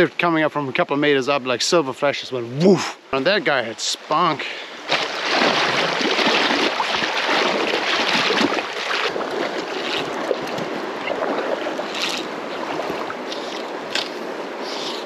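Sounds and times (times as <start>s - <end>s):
river water rushing: 2.4s - 15.0s.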